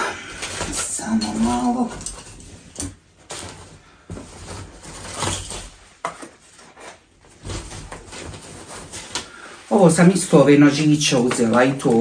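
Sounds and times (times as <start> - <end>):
shopping bag rustling: 0.2 - 10.8.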